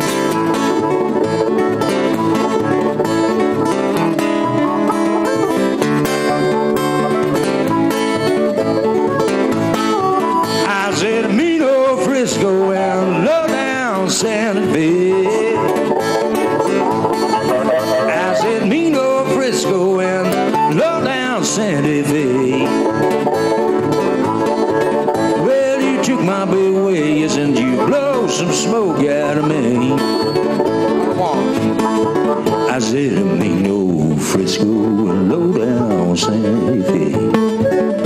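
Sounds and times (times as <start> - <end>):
acoustic guitar rhythm: 0.0 - 38.0
blues harmonica: 0.0 - 38.0.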